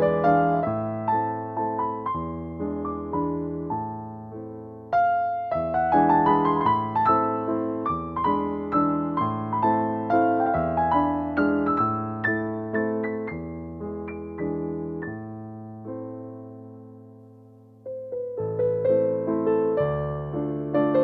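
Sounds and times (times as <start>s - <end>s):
soft piano melody: 0.0s - 21.0s.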